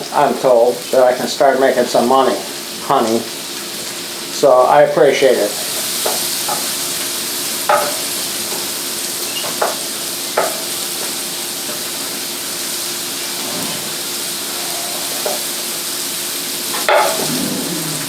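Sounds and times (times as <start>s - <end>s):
garlic sizzling in a pan: 0.0s - 18.0s.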